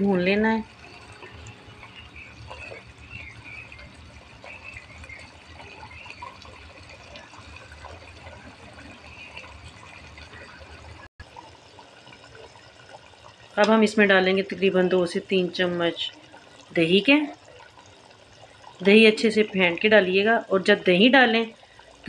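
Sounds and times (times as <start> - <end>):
meat sizzling in oil: 0.1 - 20.0.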